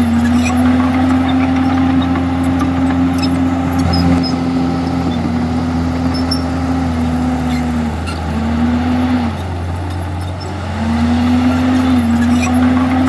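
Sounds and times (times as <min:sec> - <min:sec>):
bulldozer diesel engine: 0:00.0 - 0:13.0.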